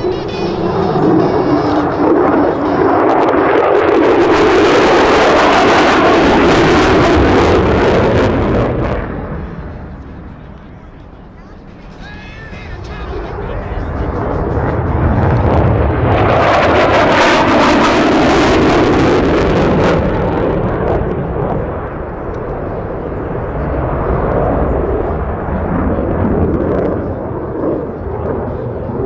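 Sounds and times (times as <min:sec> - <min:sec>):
jet aircraft flying past: 0:00.0 - 0:29.0.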